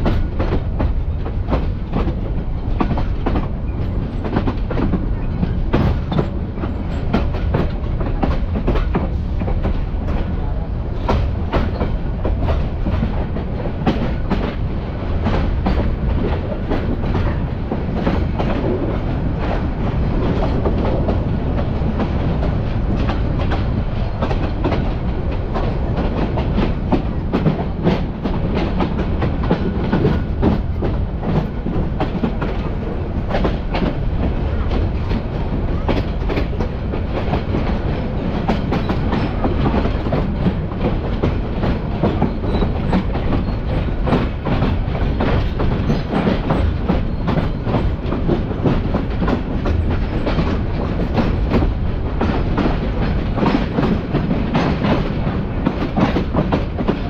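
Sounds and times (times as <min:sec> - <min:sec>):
train rumble inside carriage: 0:00.0 - 0:57.0
train wheels clacking on track: 0:00.0 - 0:57.0.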